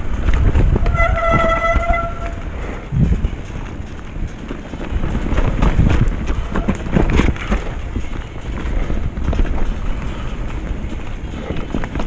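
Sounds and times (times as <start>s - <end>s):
bike clattering over bumps: 0.0s - 12.0s
wind buffeting microphone: 0.0s - 12.0s.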